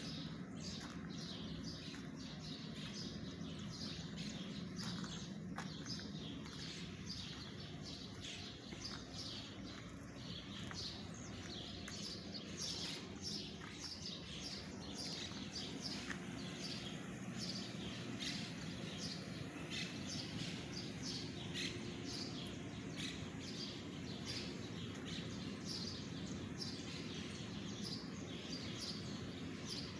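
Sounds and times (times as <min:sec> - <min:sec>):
low background rumble: 0:00.0 - 0:29.8
birds chirping: 0:00.0 - 0:29.9.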